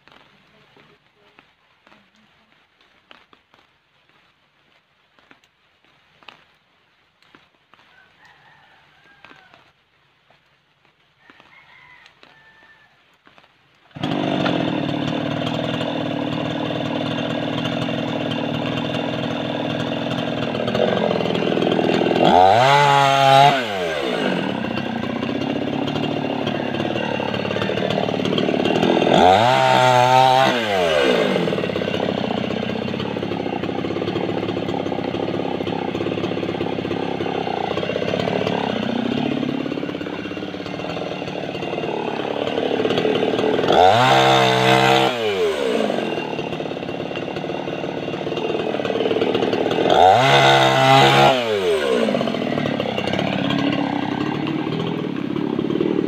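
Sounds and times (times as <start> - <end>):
chainsaw cutting and revving: 0.1 - 1.0, 8.4 - 9.6, 11.4 - 56.0.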